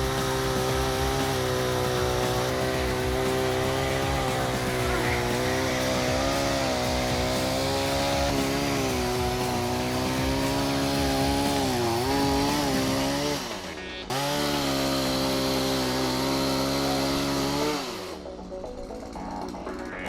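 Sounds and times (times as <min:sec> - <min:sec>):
chainsaw running at high revs: 0:00.0 - 0:19.6.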